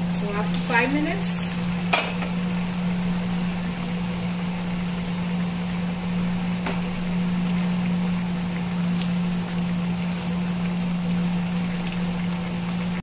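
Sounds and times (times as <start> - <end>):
fan rushing noise: 0.0 - 13.0
low motor hum: 0.0 - 13.0.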